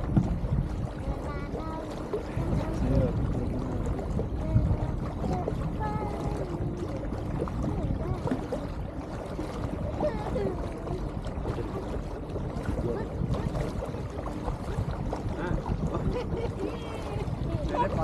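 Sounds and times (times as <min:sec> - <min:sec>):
boat low rumble: 0:00.0 - 0:18.0
water rushing: 0:00.0 - 0:18.0
faint voices: 0:00.9 - 0:14.6, 0:15.2 - 0:18.0.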